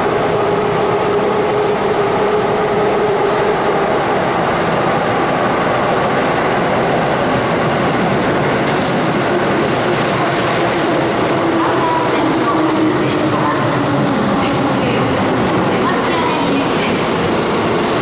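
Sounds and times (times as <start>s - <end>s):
electric train rumbling in tunnel: 0.0s - 18.0s.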